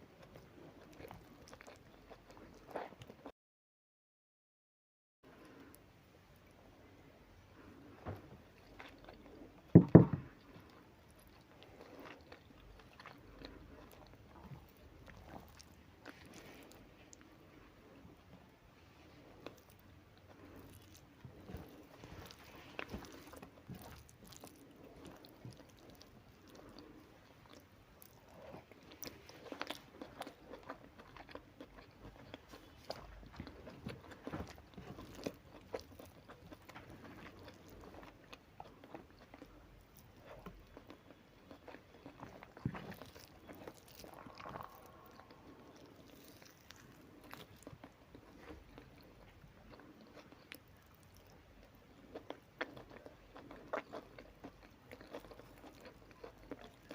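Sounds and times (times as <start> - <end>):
person chewing and biting: 8.6 - 17.3, 19.1 - 56.9.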